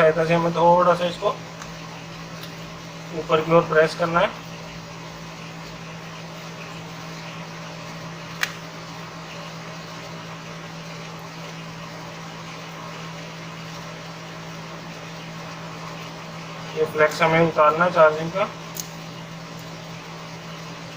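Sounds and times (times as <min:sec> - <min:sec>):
low background hum: 0:00.0 - 0:20.9.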